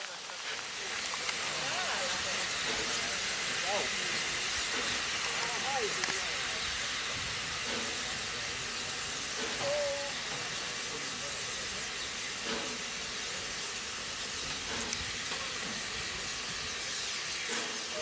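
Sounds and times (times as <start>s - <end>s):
steam hissing: 0.0s - 18.0s.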